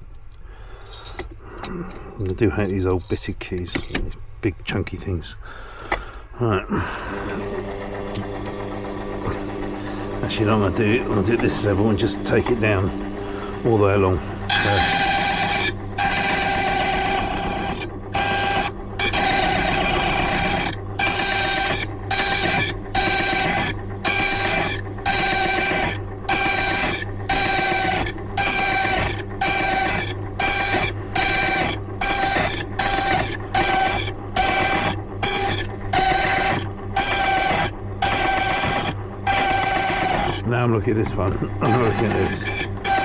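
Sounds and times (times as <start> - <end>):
key-cutting machine whining: 6.8 - 43.0.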